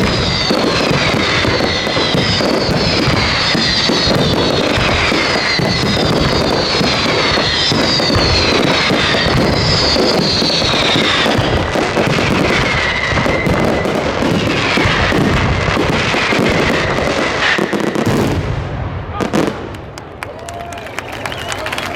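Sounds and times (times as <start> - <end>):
whistling firework shells: 0.0 - 18.4, 19.3 - 21.9
fireworks bangs and crackling: 0.0 - 21.9.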